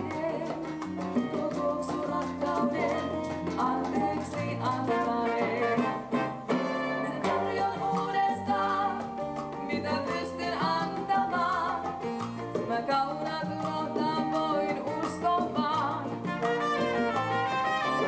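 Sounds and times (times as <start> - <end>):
congas and timbales: 0.0 - 18.0
salsa band playing: 0.0 - 18.0.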